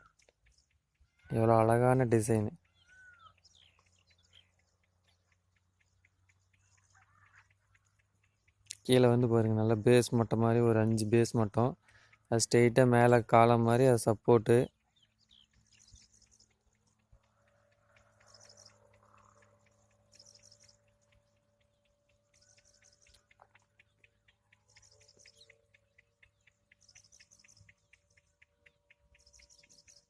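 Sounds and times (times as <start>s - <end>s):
faint quick ticking: 2.3s - 13.3s, 15.4s - 30.0s.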